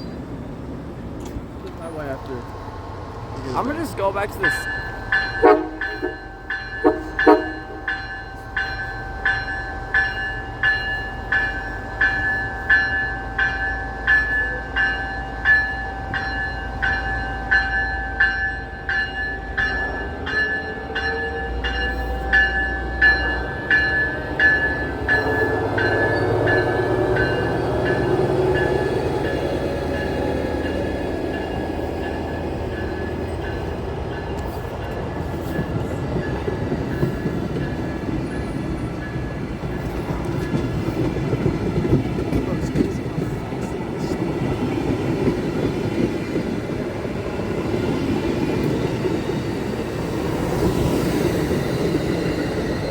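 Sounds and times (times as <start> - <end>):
train rumble: 0.0 - 52.9
train wheels rolling on rails: 0.0 - 52.9
railroad crossing bell ringing: 3.5 - 52.9.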